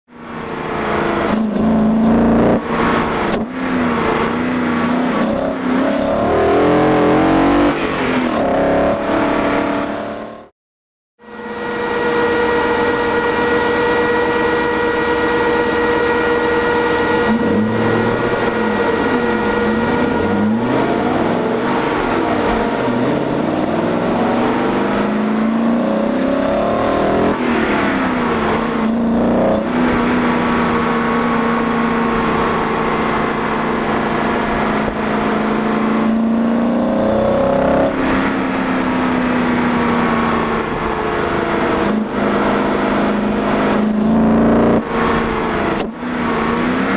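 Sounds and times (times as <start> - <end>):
car engine revving: 0.1 - 10.5, 11.3 - 46.9.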